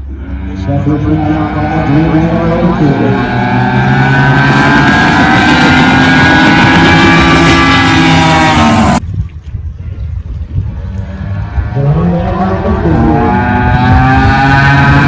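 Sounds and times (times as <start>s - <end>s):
racing boat engines roaring: 0.0s - 9.0s, 10.7s - 15.0s
low rumble: 0.0s - 15.0s.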